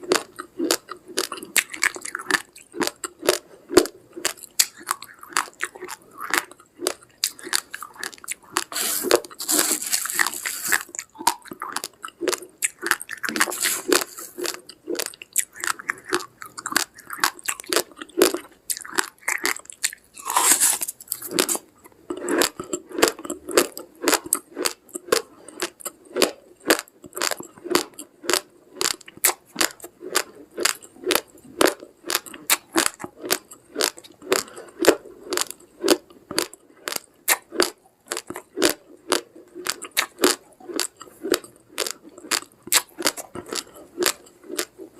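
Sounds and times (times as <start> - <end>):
crunching rice grains: 0.0 - 37.0.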